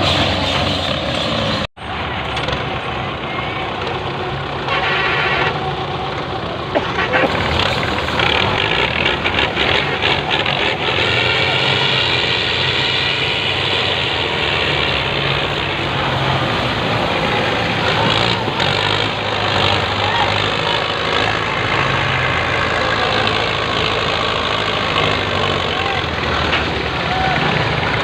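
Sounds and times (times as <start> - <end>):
tractor diesel engine running: 0.0 - 28.0
people's voices: 1.9 - 28.0.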